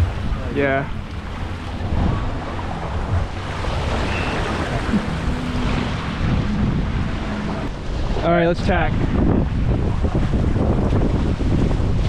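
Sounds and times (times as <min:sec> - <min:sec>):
water rushing past hulls: 0:00.0 - 0:12.0
wind buffeting microphone: 0:00.0 - 0:12.0.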